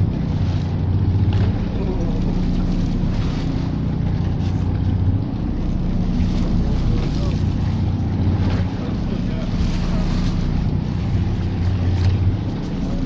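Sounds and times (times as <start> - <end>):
boat engines humming: 0.0 - 13.0.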